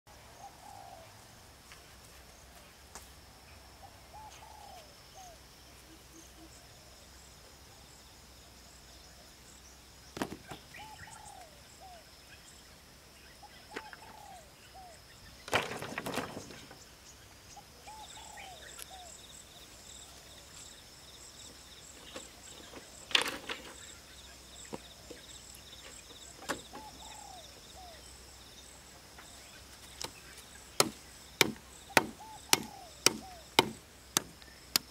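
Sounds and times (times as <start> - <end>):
insects droning: 0.1 - 34.9.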